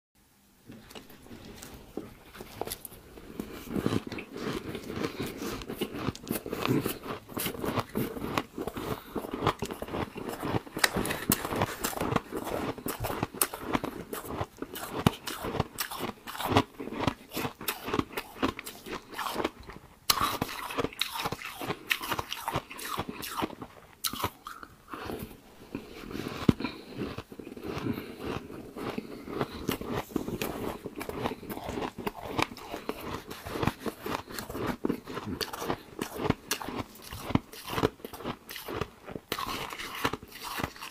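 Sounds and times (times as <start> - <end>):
ice being chewed crunching: 0.7 - 40.9.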